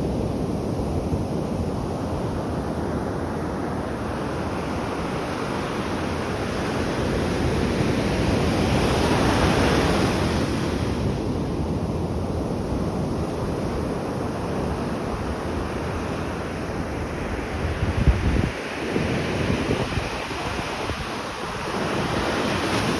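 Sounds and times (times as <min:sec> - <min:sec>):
wind buffeting microphone: 0:00.0 - 0:22.9
ocean waves washing in: 0:01.4 - 0:22.9.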